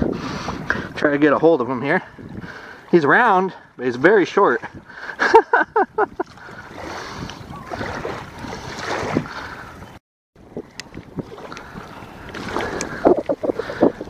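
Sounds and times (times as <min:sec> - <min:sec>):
wind noise on microphone: 0:00.0 - 0:01.2, 0:02.0 - 0:02.8, 0:04.6 - 0:14.0
water lapping at bank: 0:00.0 - 0:14.0.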